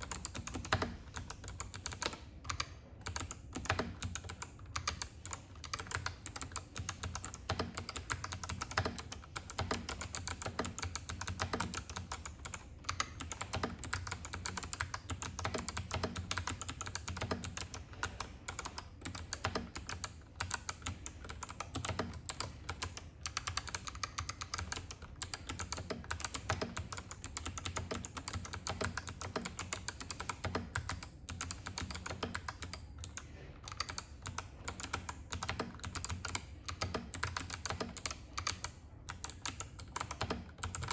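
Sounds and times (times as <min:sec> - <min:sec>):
clicky mechanical keyboard typing: 0:00.0 - 0:40.9.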